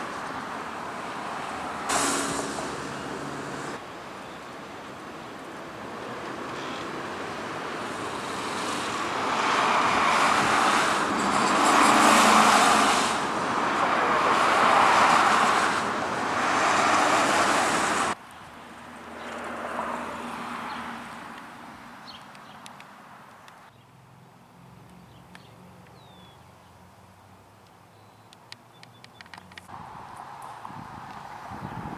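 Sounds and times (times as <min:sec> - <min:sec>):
cars passing: 0:00.0 - 0:27.9, 0:28.6 - 0:31.9.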